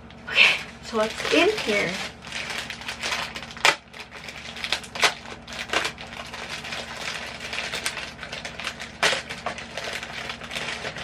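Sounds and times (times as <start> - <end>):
packaging crinkling and rustling: 0.5 - 11.0.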